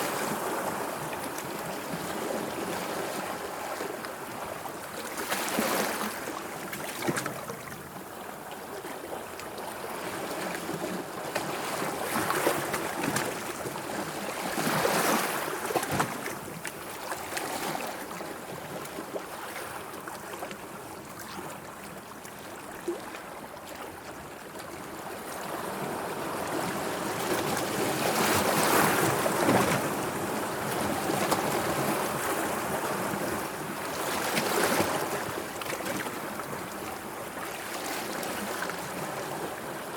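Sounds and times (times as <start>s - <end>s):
sea waves washing and lapping: 0.0s - 39.9s.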